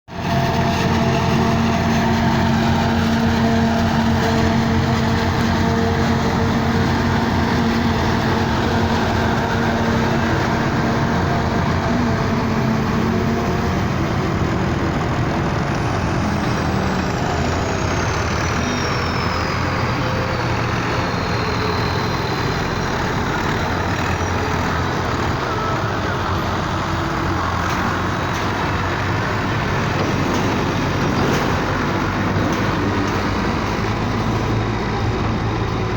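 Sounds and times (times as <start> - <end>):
farm machinery engine running: 0.1 - 35.9.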